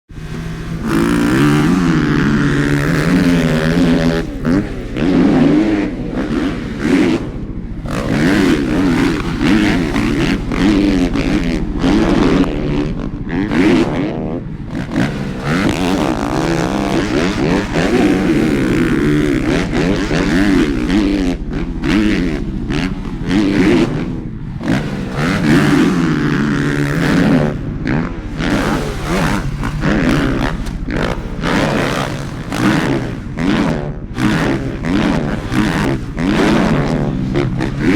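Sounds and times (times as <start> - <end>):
motocross bike engines revving: 0.1 - 37.9.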